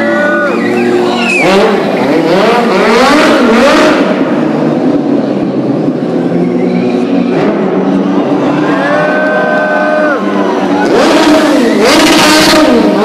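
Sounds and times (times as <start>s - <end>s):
motorcycle engine revving: 0.0s - 8.6s, 10.4s - 13.0s.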